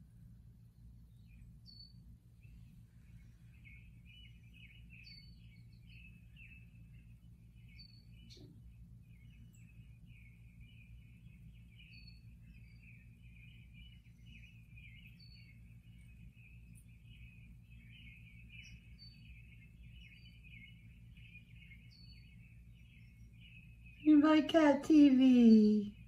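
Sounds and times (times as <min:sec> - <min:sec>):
birdsong through a speaker: 0:00.0 - 0:26.0
low steady hum: 0:00.0 - 0:26.0.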